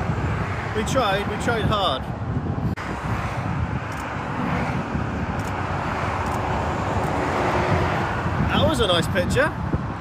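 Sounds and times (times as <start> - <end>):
motorway traffic: 0.0 - 10.0.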